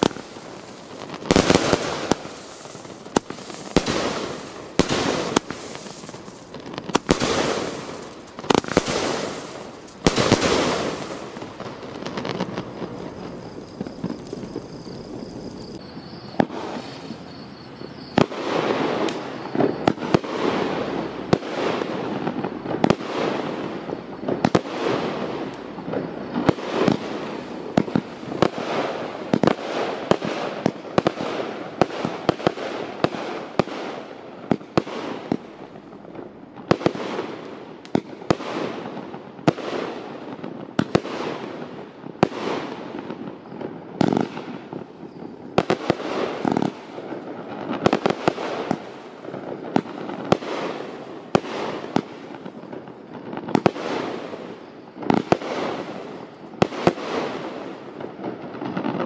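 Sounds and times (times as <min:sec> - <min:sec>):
firework bangs: 0:00.0 - 0:59.0.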